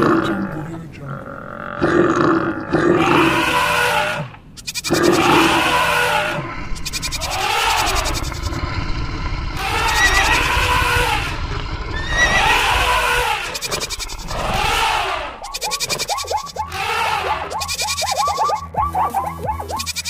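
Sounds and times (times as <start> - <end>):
animal calls: 1.4 - 8.7, 9.5 - 20.0.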